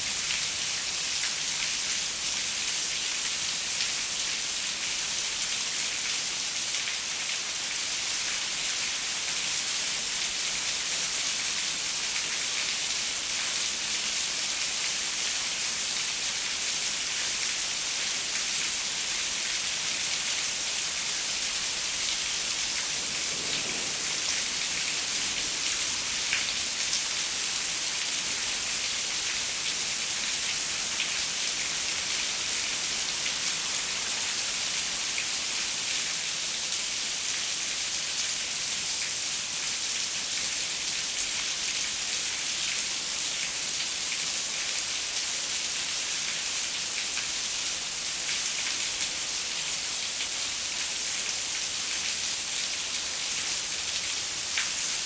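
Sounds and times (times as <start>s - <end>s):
rain on a window pane: 0.0s - 55.0s.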